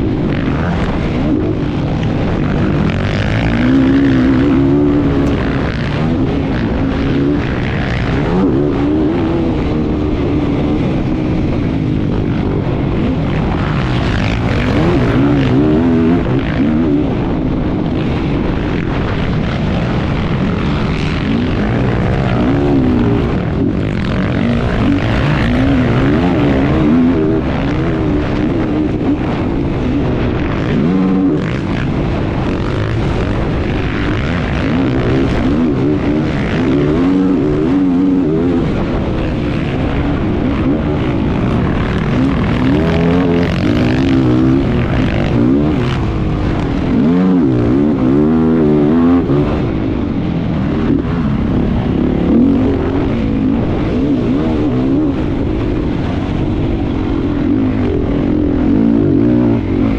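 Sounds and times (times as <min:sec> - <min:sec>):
continuous rush of noise: 0:00.0 - 0:59.9.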